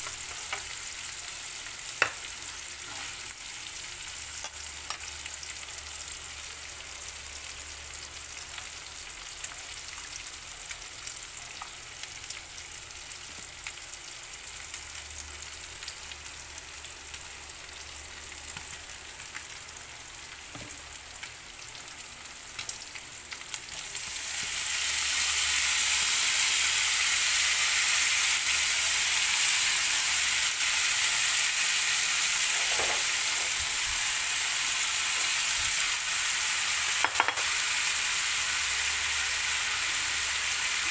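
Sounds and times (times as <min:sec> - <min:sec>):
meat and onion sizzling in pan: 0:00.0 - 0:40.9.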